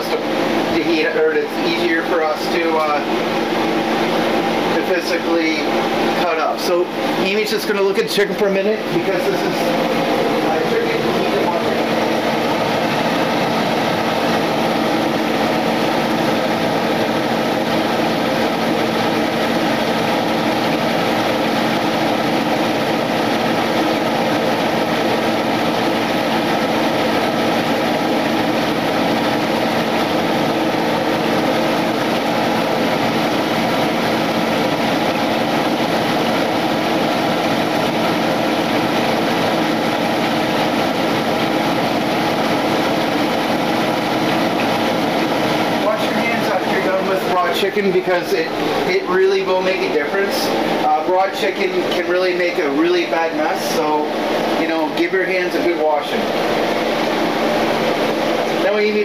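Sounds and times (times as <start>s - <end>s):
constant hum: 0.0s - 59.0s.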